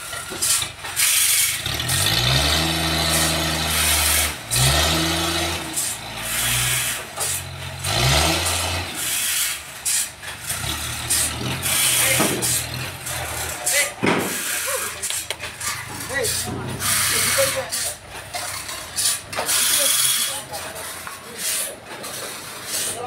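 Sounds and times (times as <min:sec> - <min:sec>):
forklift engine revving: 0:00.0 - 0:23.0.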